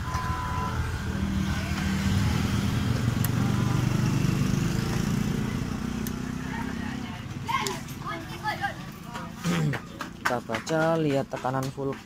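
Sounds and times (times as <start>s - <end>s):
scooter engine idling: 0.0s - 11.4s.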